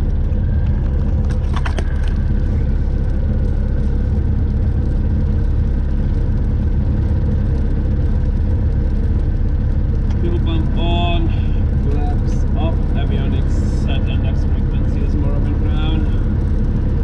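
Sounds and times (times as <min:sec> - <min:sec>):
aircraft propeller engine drone: 0:00.0 - 0:17.0.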